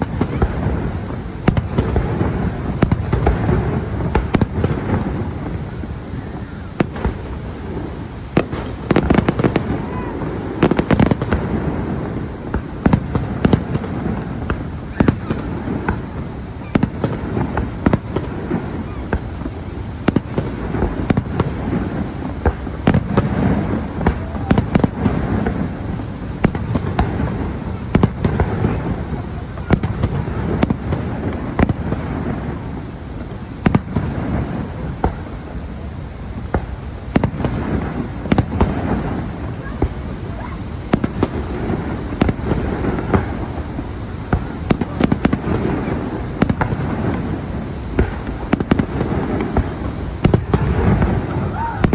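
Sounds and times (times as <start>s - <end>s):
background rumble: 0.0s - 51.9s
fireworks bangs and pops: 0.0s - 51.9s.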